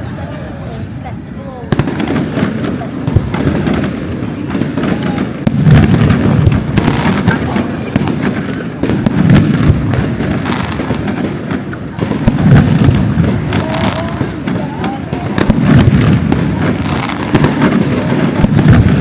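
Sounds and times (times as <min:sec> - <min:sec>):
fireworks crackling and popping: 0:01.6 - 0:19.0
fireworks booming: 0:01.7 - 0:19.0.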